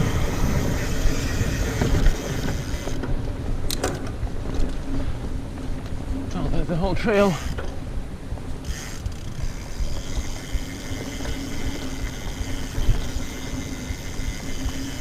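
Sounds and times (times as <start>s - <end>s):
bike tyres rumbling on trail: 0.0s - 15.0s
wind buffeting microphone: 0.0s - 15.0s.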